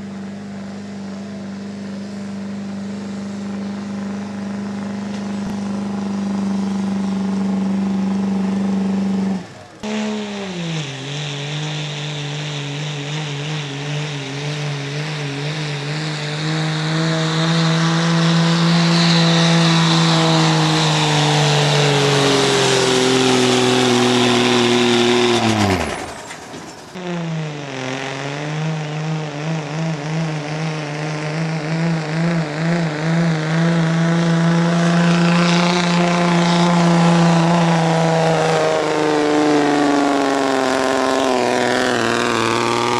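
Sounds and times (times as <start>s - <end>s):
vehicle engine running under load: 0.0s - 42.9s.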